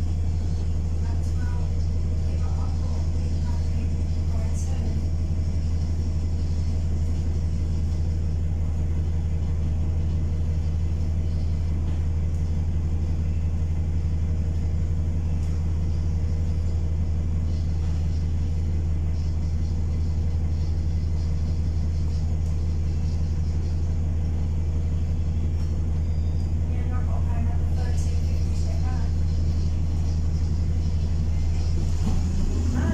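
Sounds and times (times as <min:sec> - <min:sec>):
bus engine idling: 0:00.0 - 0:32.9.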